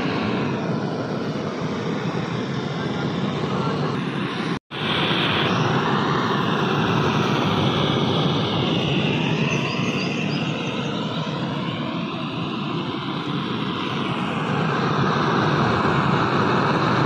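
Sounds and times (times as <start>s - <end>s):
gas torch roaring: 0.0s - 17.0s.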